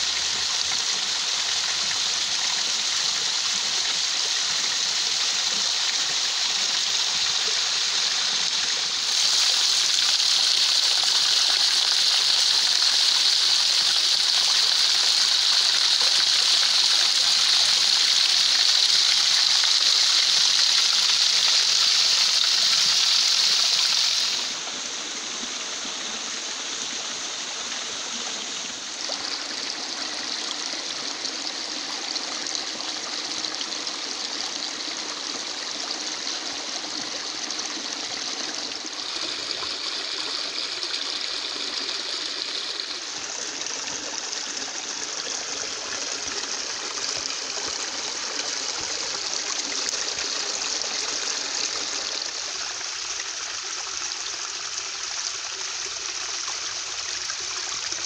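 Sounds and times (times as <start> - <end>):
stream rushing over rocks: 0.0 - 54.4.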